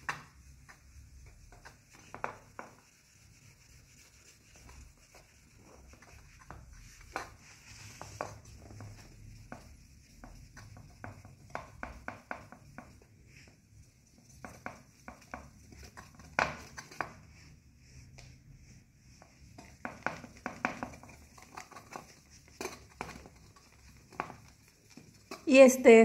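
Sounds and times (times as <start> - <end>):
cotton rubbing metal: 0.0 - 25.6.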